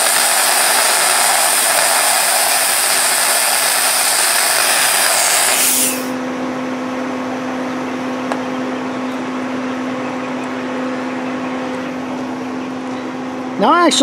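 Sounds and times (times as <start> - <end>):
machine humming: 0.0 - 13.6.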